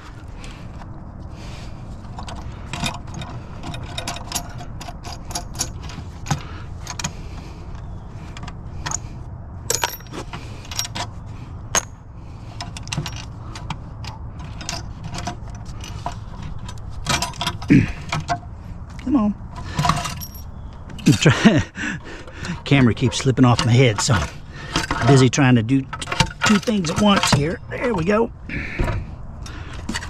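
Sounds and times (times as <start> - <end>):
steady low rumble: 0.0 - 30.0
metal parts clinking: 2.1 - 7.2, 7.8 - 18.5, 19.5 - 21.3, 22.2 - 30.0.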